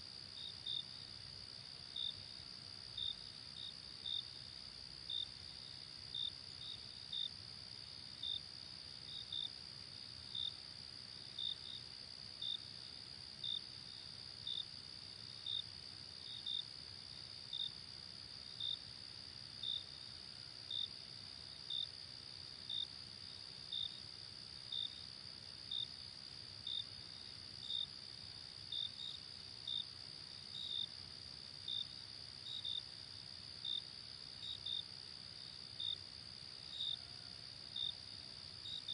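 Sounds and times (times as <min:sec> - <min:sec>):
cricket chirps: 0:00.0 - 0:38.9.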